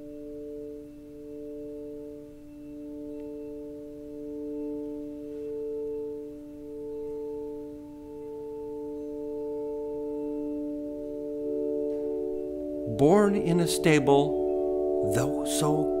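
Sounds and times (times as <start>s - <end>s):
held chord of pure tones: 0.0s - 16.0s.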